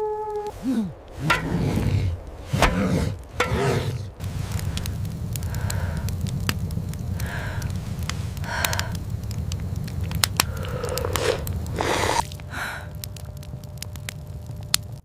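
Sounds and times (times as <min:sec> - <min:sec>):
low rumble: 0:00.0 - 0:15.0
sharp crackles and clicks: 0:00.3 - 0:15.0.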